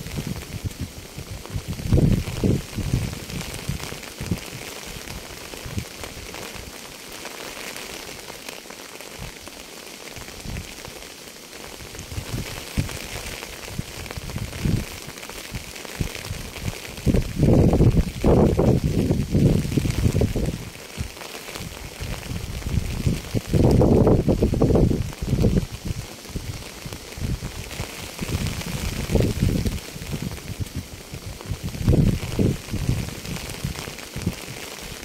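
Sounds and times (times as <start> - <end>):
rain on hard surface: 0.0 - 35.0.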